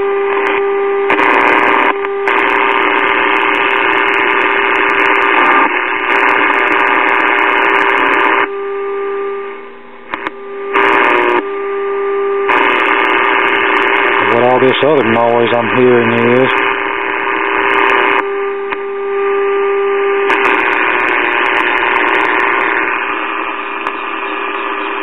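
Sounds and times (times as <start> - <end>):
steady modulation tone: 0.0 - 25.0
loud hissing static: 0.3 - 8.5, 10.0 - 11.5, 12.4 - 25.0.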